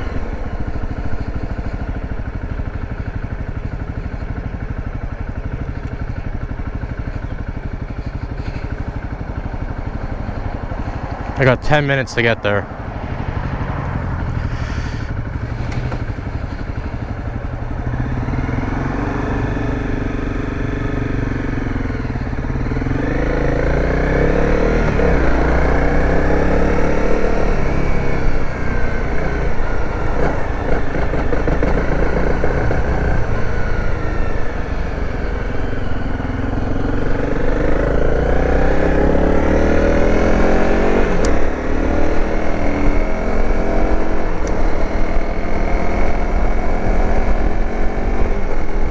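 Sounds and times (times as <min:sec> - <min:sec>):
dirt bike engine accelerating: 0:00.0 - 0:48.9.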